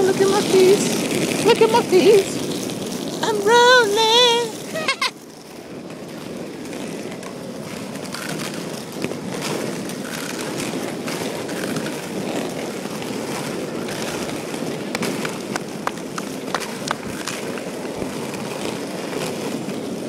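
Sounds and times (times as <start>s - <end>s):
roller skate wheels on asphalt: 0.0s - 20.0s.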